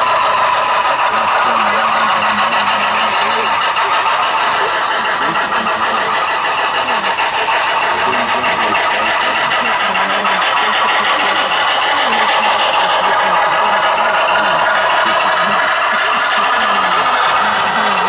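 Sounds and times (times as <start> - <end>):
faint voices: 0.0 - 18.0
model train rumbling: 0.0 - 18.0.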